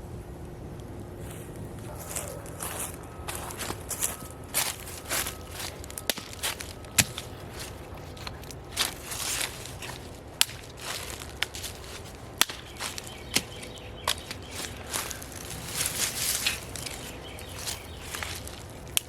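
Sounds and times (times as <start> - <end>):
low rumble of flames: 0.0 - 19.0.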